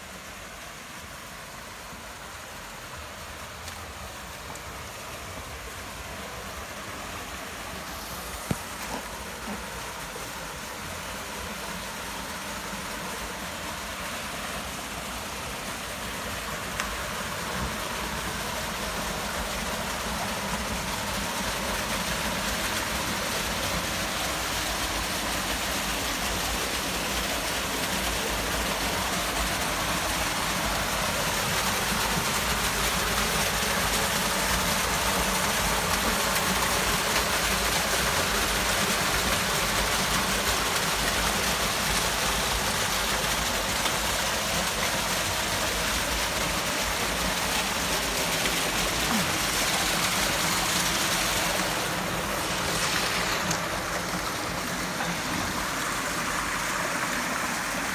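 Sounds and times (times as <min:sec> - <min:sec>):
small waterfall splashing: 0:00.0 - 0:57.9.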